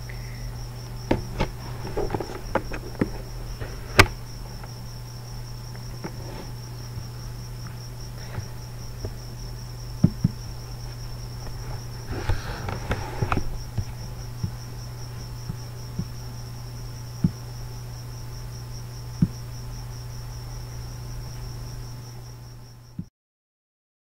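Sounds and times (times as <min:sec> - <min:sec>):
low hum: 0:00.0 - 0:22.8.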